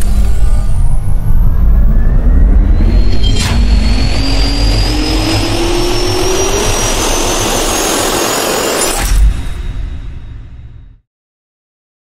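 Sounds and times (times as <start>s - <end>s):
jet turbine roar with rising whine: 0.0s - 10.1s.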